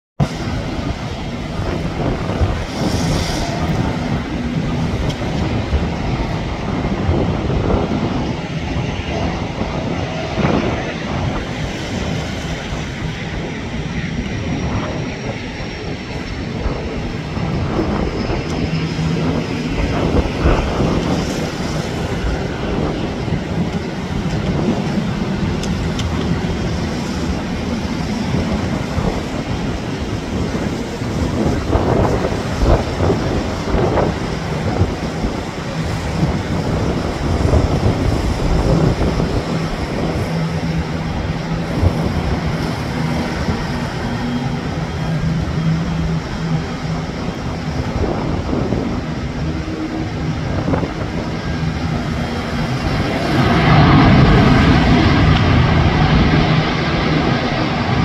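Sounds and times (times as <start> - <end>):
distant jet roar: 0.2 - 58.0.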